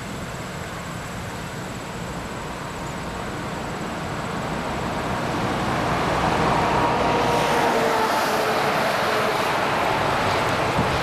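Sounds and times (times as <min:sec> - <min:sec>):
diesel locomotive engine: 0:00.0 - 0:11.0
train wheel noise: 0:00.0 - 0:11.0.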